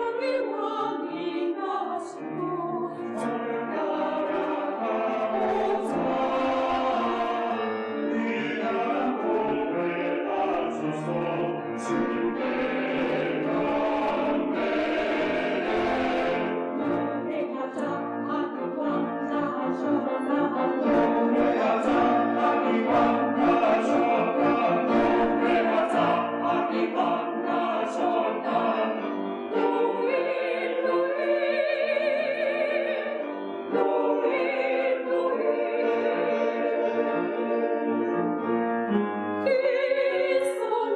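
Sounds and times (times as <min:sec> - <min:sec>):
church choir singing: 0:00.0 - 0:40.9.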